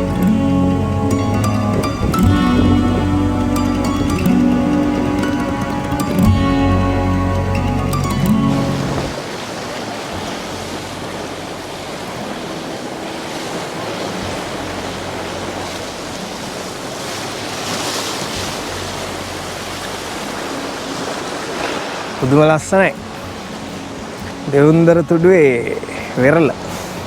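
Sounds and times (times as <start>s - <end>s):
ocean surf on beach: 0.0s - 27.0s
wave breaking: 0.0s - 27.0s.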